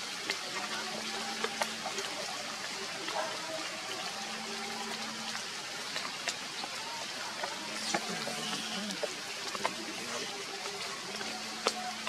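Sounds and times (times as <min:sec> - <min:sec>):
drips and taps: 0:00.0 - 0:12.0
rain falling: 0:00.0 - 0:12.0.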